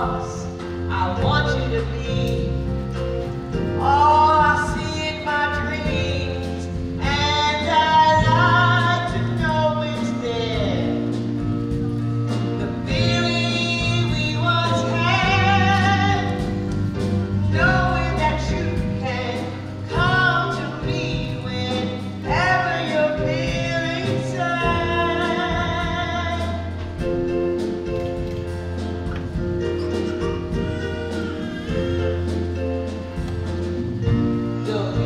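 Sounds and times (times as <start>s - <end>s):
person singing with vibrato: 0.0s - 27.5s, 34.0s - 35.0s
instrumental accompaniment with bass: 0.0s - 35.0s.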